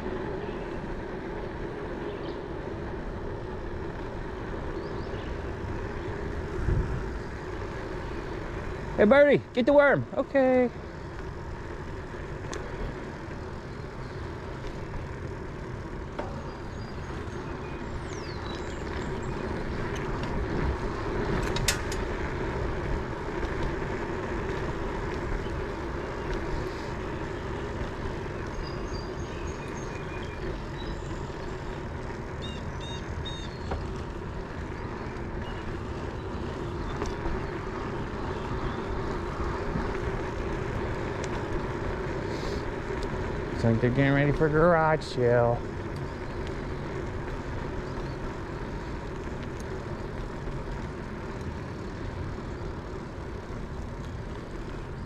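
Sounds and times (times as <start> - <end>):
wind rumble on microphone: 0.0 - 9.0, 10.8 - 55.0
bicycle tyre noise: 0.0 - 55.0.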